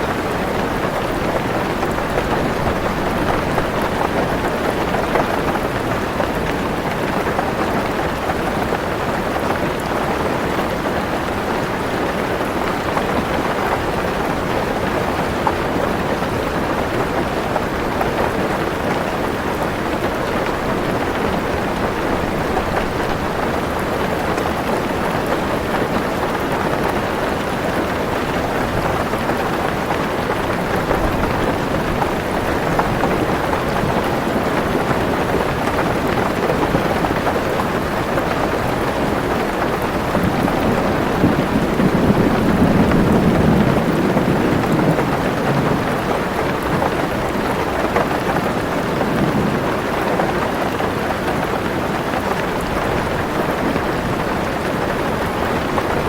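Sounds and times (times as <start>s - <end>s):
heavy rain on a car roof: 0.0s - 56.0s.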